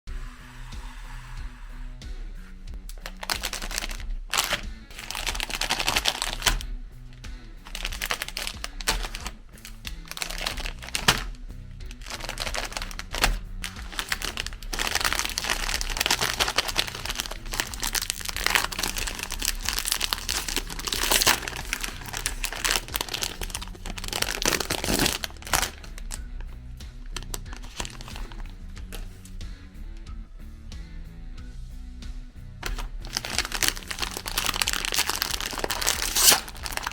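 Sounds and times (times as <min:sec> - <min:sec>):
background music: 0:00.1 - 0:36.9
crinkling and crackling: 0:02.8 - 0:29.4, 0:32.6 - 0:36.9.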